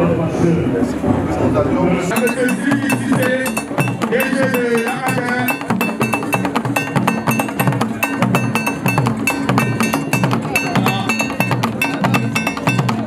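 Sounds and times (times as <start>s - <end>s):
drum ensemble playing: 2.1s - 13.0s
low drum thuds: 2.2s - 13.0s.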